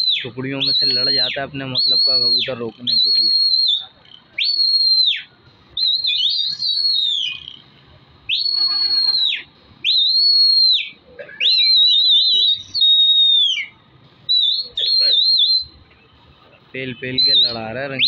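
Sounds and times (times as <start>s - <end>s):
person whistling loudly: 0.0s - 7.6s, 8.3s - 13.7s, 14.3s - 15.8s, 16.9s - 18.0s.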